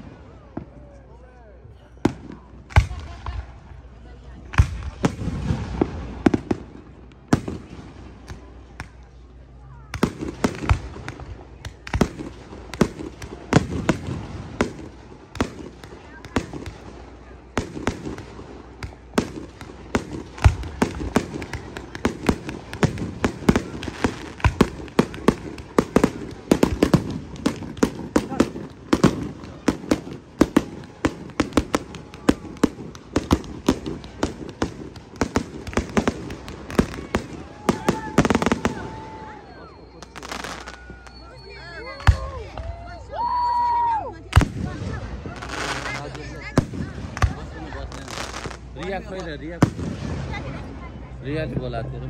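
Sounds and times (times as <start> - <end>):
fireworks bangs echoing: 4.5 - 9.0, 9.9 - 42.7, 44.3 - 50.9.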